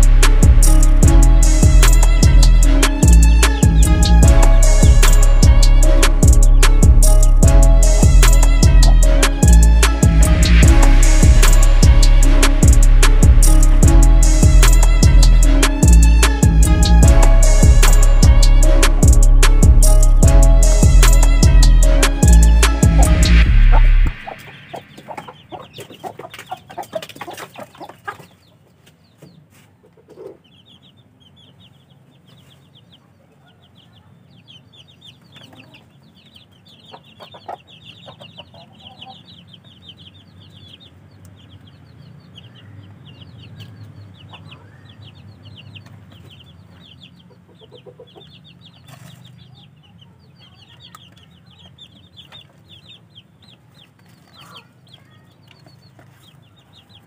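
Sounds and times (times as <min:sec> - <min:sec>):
baby chickens peeping: 0:00.0 - 0:57.0.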